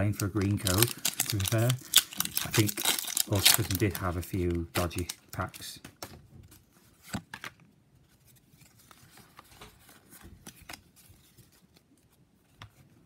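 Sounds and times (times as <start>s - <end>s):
cards rustling and clicking: 0.0s - 7.6s, 8.2s - 13.0s.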